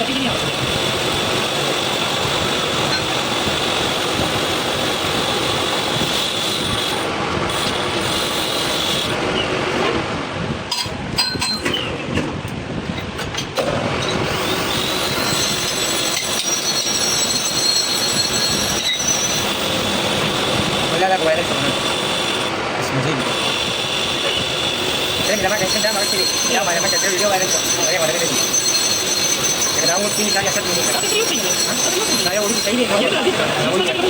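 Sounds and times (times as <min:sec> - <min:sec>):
metal grinding with high whine: 0:00.0 - 0:10.1, 0:12.9 - 0:34.0.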